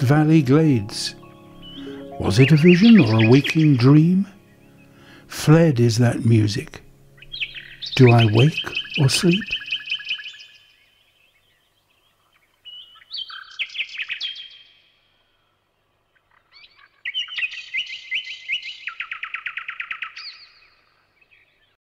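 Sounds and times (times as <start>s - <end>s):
songbird trilling: 0.0s - 5.0s, 6.6s - 14.9s, 16.2s - 21.7s.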